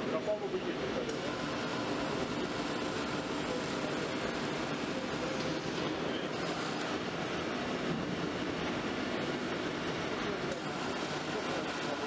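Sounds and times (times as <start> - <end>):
workshop machinery noise: 0.0 - 12.0.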